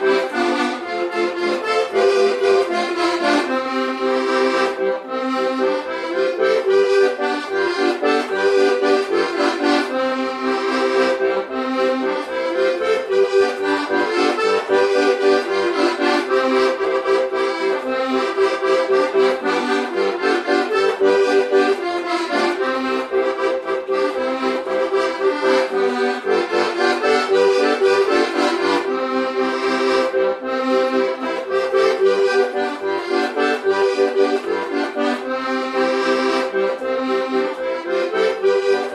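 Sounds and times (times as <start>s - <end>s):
accordion playing folk tune: 0.0s - 38.9s.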